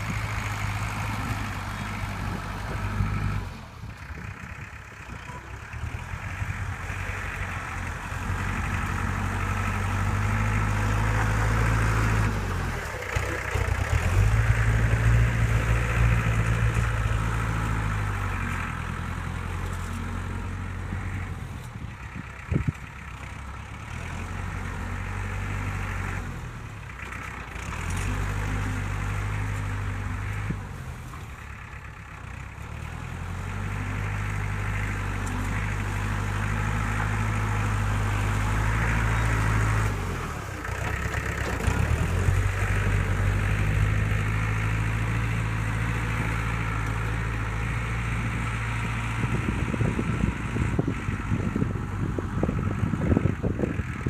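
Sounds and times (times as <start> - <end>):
heavy diesel engine working: 0.0 - 54.0.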